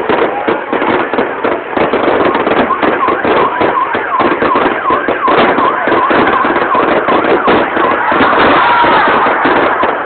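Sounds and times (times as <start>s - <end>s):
fireworks crackling and popping: 0.0s - 10.0s.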